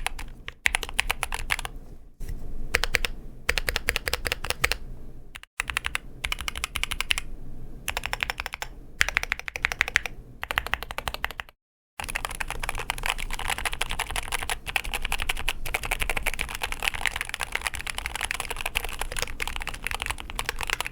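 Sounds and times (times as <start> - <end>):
fast keyboard typing: 0.0 - 1.7, 2.8 - 4.8, 5.4 - 7.3, 7.9 - 20.9.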